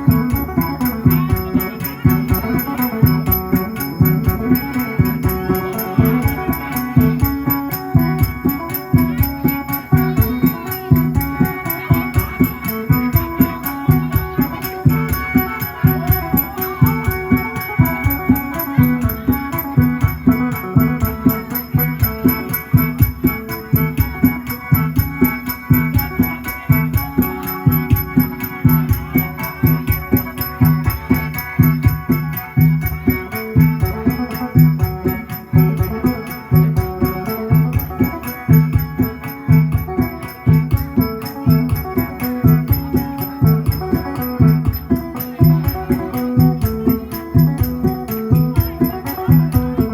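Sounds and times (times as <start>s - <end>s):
plucked lute played fast: 0.0s - 49.9s.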